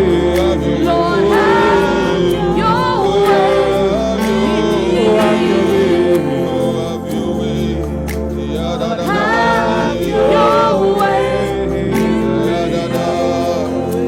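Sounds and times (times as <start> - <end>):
low bass: 0.0 - 14.0
sustained keyboard chords: 0.0 - 14.0
voices singing: 0.0 - 14.0.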